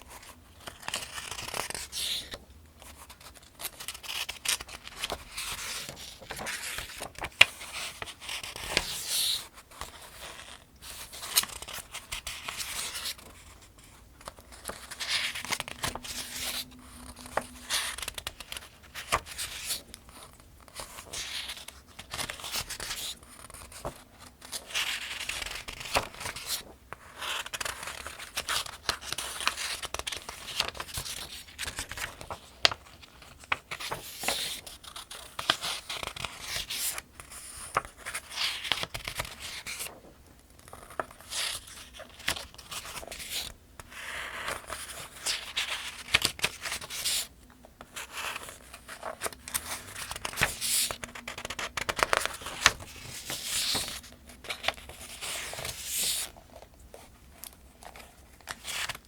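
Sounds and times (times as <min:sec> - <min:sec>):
paper pages turning: 0:00.1 - 0:59.0.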